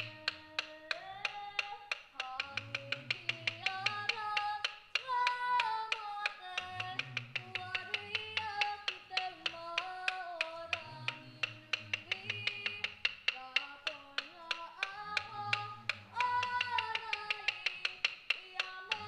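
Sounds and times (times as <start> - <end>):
group singing: 2.2 - 13.0, 13.6 - 19.0.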